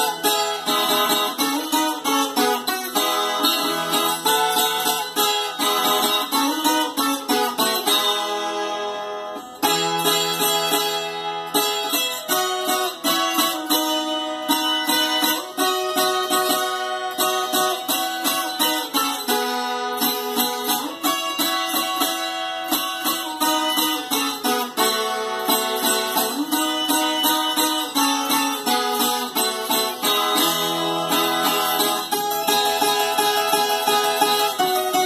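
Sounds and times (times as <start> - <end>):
plucked folk guitar melody: 0.0 - 35.0.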